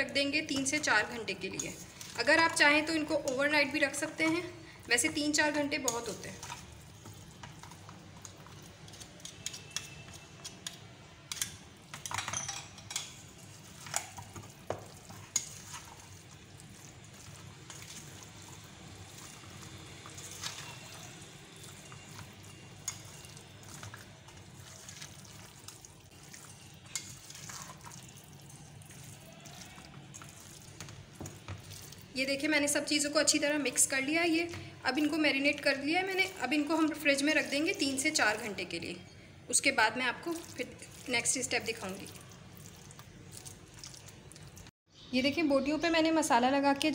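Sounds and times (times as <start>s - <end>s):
wet stirring of marinade: 0.0s - 12.1s, 12.8s - 38.8s, 39.5s - 44.7s.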